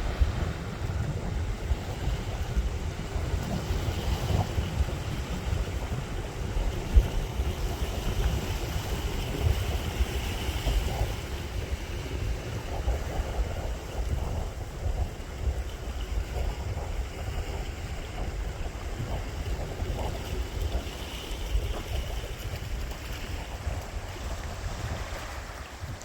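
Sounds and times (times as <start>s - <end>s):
waves washing on shore: 0.0s - 26.0s
wind buffeting microphone: 0.0s - 26.0s.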